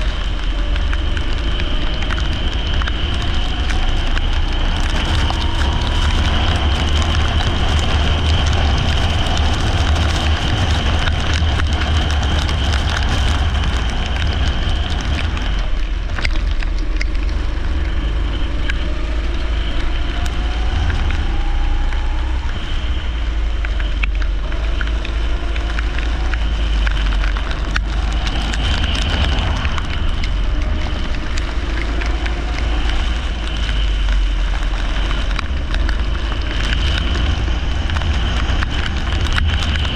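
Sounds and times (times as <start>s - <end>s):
rain and spray hiss: 0.0s - 39.9s.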